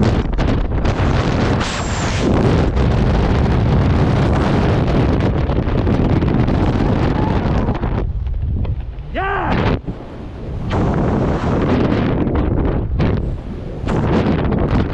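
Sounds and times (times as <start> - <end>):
wind rush on microphone: 0.0 - 14.9.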